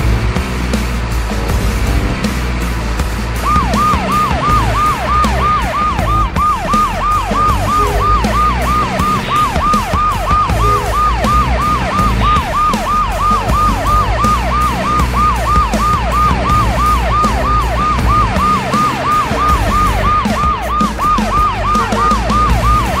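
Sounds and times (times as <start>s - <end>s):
electronic siren wailing: 3.4s - 23.0s.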